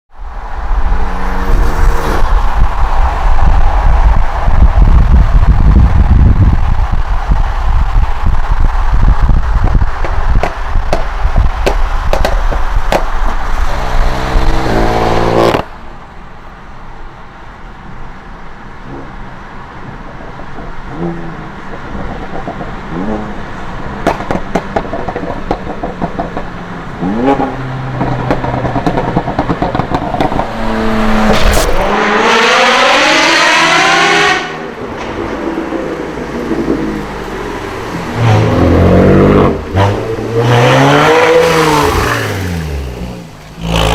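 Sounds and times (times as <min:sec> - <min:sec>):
car engines revving: 0:00.2 - 0:15.8, 0:20.9 - 0:43.9.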